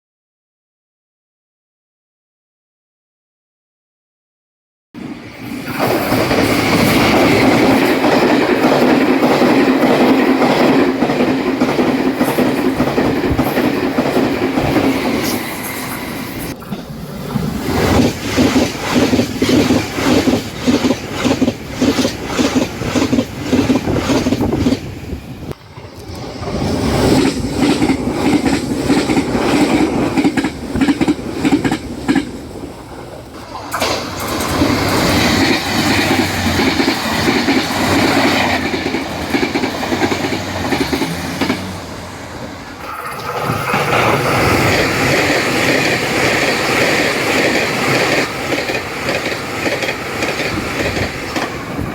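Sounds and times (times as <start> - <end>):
trains passing at high speed: 5.0 - 51.9.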